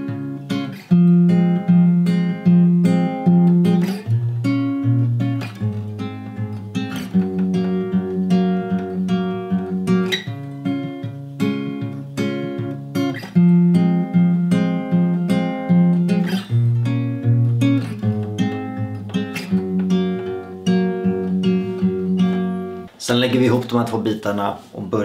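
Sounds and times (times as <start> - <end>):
fingerpicked acoustic guitar: 0.0 - 22.9.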